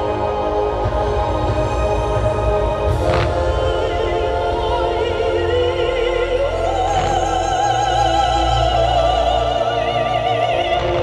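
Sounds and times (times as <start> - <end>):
opera singer with vibrato: 0.0 - 11.0.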